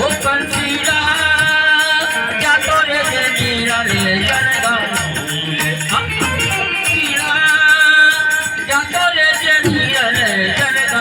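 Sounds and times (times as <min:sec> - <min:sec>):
rattling hand percussion: 0:00.0 - 0:11.0.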